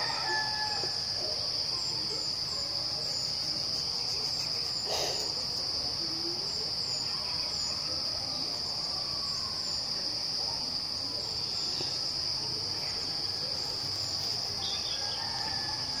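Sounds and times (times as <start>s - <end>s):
shrill insect chorus: 0.0s - 16.0s.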